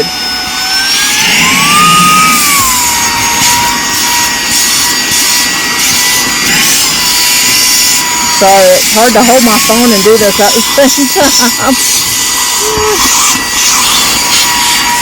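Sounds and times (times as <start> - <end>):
handheld vacuum motor whining: 0.0 - 15.0
suction rushing: 0.0 - 15.0.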